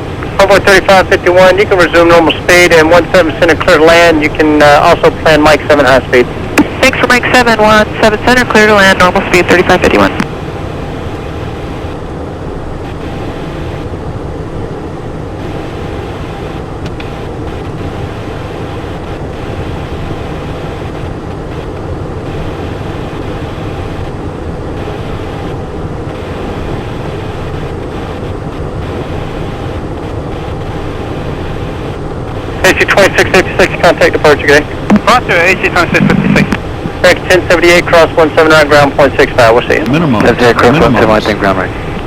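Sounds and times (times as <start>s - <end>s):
jet cockpit engine and airflow: 0.0s - 42.0s.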